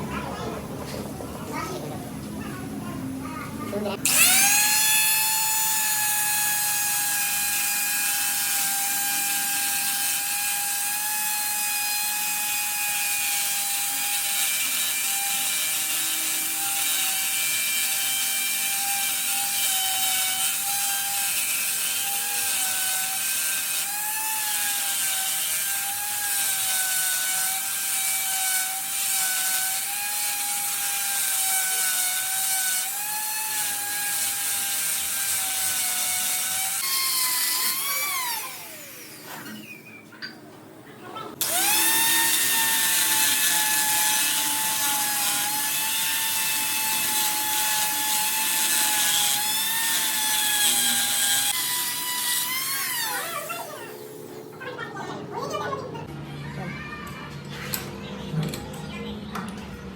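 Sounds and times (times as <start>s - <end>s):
electric motor whining: 3.8s - 39.9s, 41.4s - 54.3s.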